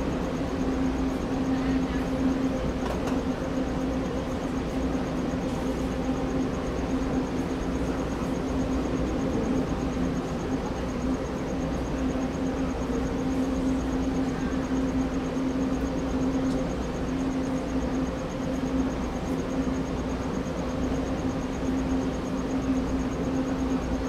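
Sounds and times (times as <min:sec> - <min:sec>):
constant hum-like tone: 0:00.0 - 0:24.0.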